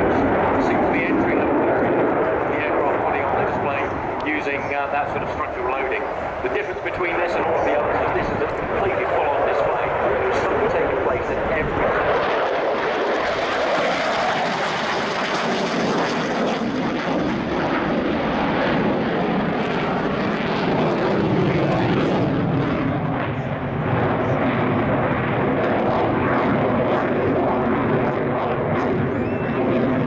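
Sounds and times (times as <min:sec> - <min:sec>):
fighter jet roaring: 0:00.0 - 0:30.0.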